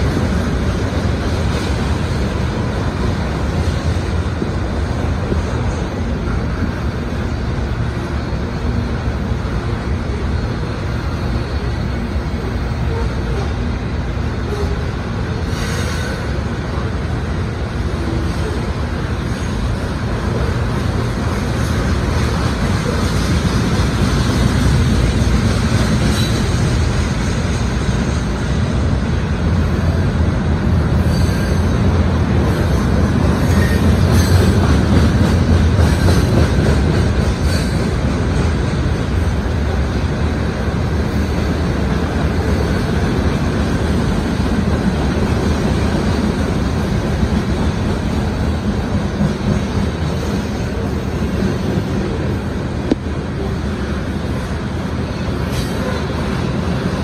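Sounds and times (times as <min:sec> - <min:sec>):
freight trains rumbling on rails: 0:00.0 - 0:57.0.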